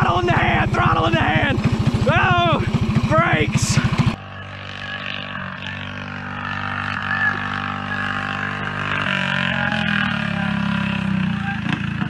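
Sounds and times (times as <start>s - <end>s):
go-kart engine droning: 0.0s - 12.0s.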